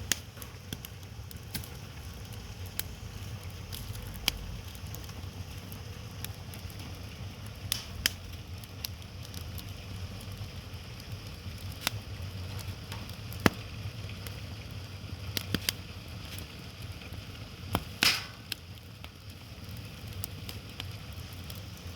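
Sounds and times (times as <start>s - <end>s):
fire low rumble: 0.0s - 21.9s
firewood popping and crackling: 0.0s - 21.9s.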